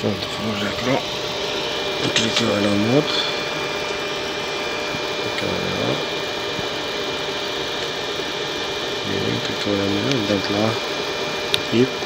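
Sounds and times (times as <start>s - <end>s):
fan whirring: 0.0s - 12.0s
high whine: 0.0s - 12.0s.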